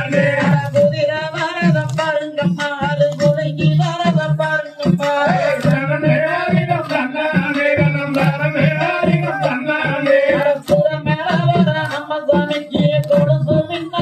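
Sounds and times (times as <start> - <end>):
folk singing: 0.0 - 14.0
sharp percussion beats: 0.0 - 14.0.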